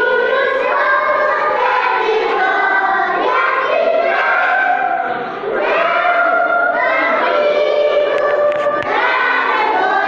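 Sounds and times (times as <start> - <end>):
children singing in unison: 0.0 - 10.0.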